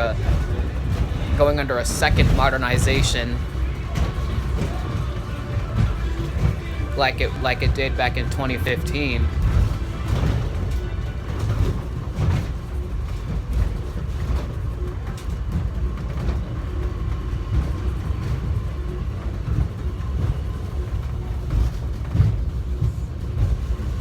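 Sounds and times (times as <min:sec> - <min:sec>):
faint steady whine: 0:00.0 - 0:24.0
train rumble: 0:00.0 - 0:24.0.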